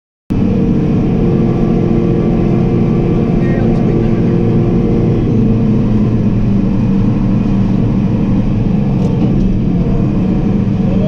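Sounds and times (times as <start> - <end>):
harvester engine rumbling: 0.3 - 11.0.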